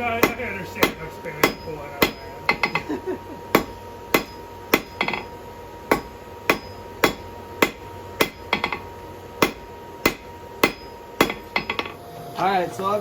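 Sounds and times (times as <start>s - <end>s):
hammer striking steel on anvil: 0.0s - 2.9s, 3.5s - 8.8s, 9.4s - 12.0s.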